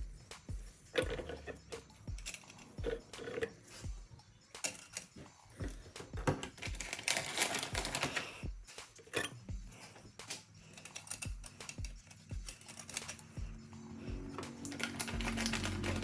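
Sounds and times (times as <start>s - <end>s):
metal clutch plates clinking: 0.0s - 8.1s, 9.0s - 16.0s
music with kick-drum beat: 0.0s - 16.0s.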